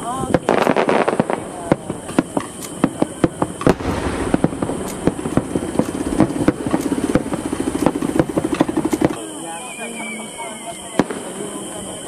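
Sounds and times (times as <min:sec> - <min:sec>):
fireworks loud bangs: 0:00.0 - 0:09.4, 0:10.2 - 0:12.0
fireworks crackling pops: 0:00.0 - 0:12.0.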